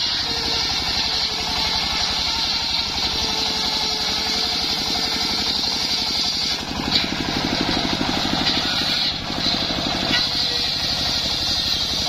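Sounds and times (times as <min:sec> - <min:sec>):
saw blade whining through wood: 0:00.0 - 0:12.0
sawmill engine pulsing: 0:00.0 - 0:12.0.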